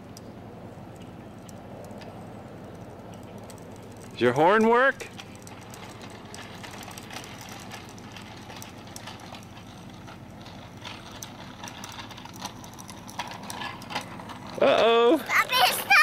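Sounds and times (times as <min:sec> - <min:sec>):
bicycle rolling on concrete: 0:00.0 - 0:16.0
clicking and rattling: 0:00.9 - 0:16.0.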